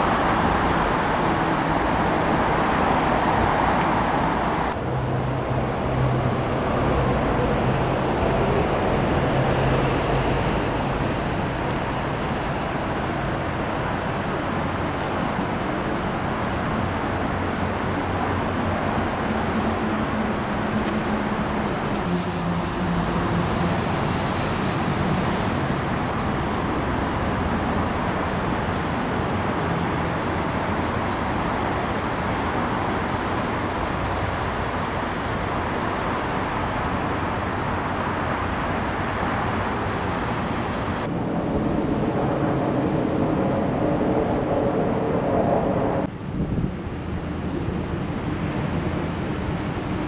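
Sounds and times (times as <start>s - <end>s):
road traffic noise: 0.0s - 50.0s.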